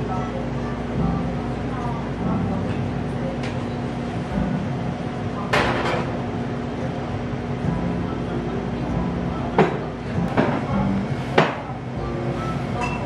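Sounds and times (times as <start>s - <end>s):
kitchen machinery hum: 0.0s - 13.0s.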